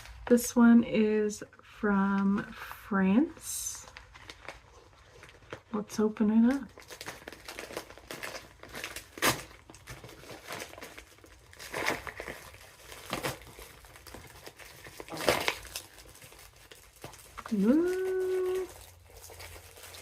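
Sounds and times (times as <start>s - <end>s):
packaging crinkling and rustling: 0.0s - 0.5s, 3.7s - 20.0s
sharp packaging crackles: 3.6s - 20.0s.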